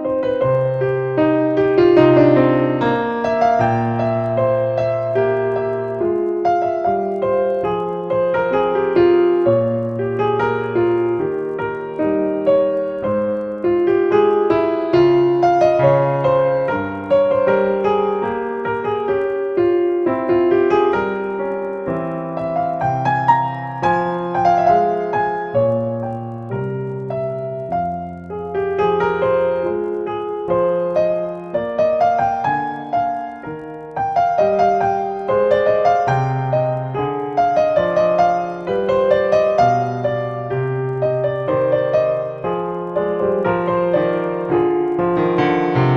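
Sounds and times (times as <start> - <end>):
gentle piano music: 0.0 - 45.9.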